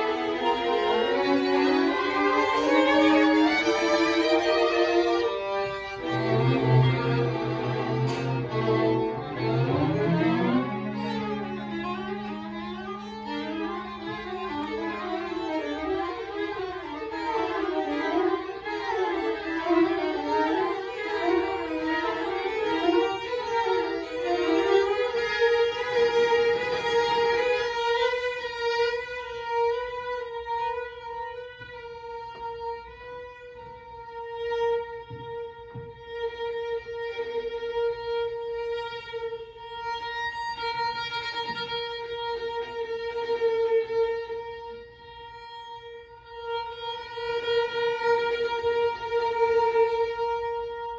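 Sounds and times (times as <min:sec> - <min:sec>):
low held cello notes: 0:00.0 - 0:50.9.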